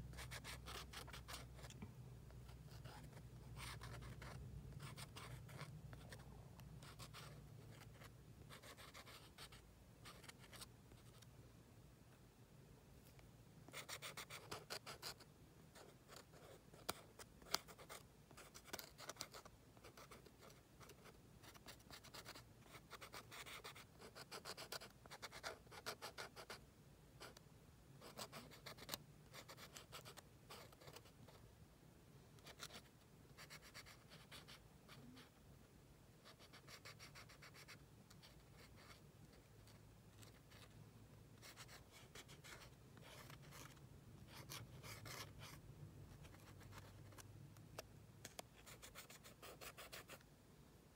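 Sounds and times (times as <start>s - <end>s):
pen scratching on paper: 0.1s - 1.7s, 2.5s - 6.2s, 6.8s - 11.2s, 13.7s - 26.6s, 28.0s - 31.4s, 32.4s - 35.3s, 36.2s - 40.7s, 41.4s - 45.6s, 46.2s - 47.2s, 48.2s - 50.2s.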